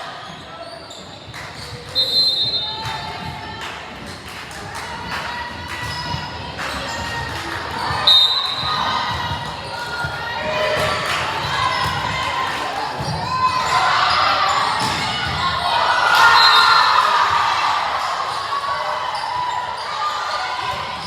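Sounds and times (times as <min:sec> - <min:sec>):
chatter and shouts of people: 0:00.0 - 0:21.0.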